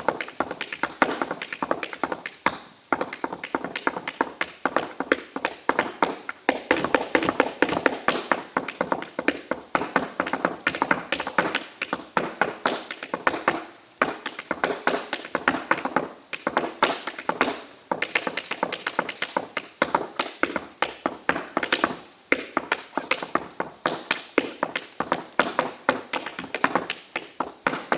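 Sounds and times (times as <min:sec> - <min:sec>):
tap shoes tapping: 0:00.0 - 0:27.9.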